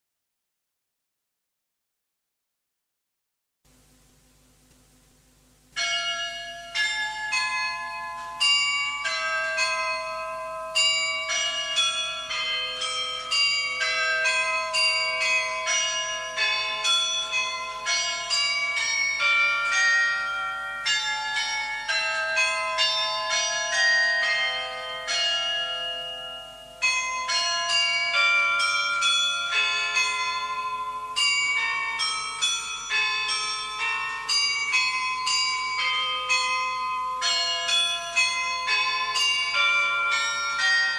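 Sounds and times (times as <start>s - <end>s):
church bells ringing: 5.8s - 40.9s.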